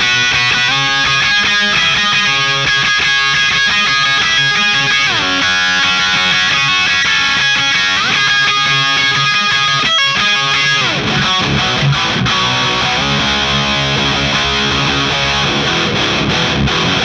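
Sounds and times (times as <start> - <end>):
distorted electric guitar riffing: 0.0 - 17.0.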